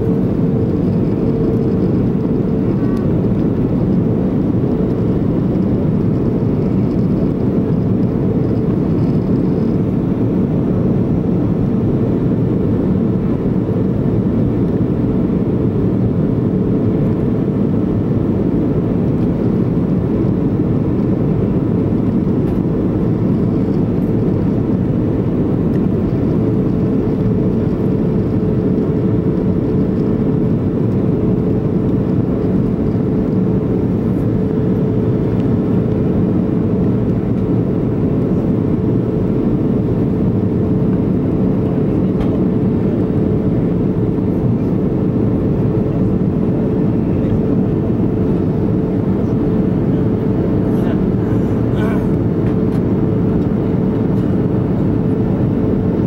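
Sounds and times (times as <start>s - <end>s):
airflow rush in cabin: 0.0s - 56.0s
jet engines running: 0.0s - 56.0s
steady hum: 0.0s - 56.0s.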